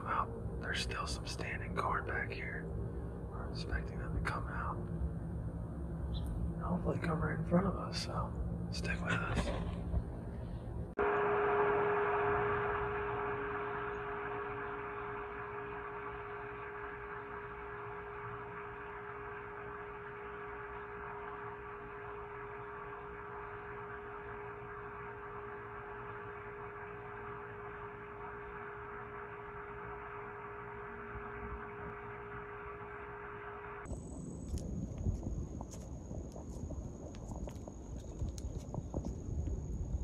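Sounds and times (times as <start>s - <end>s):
steady tonal hum: 0.0s - 40.0s.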